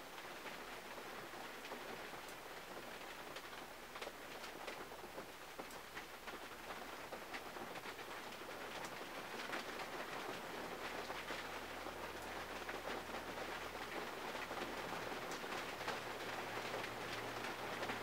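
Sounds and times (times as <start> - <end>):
rain pattering on car: 0.0 - 18.0.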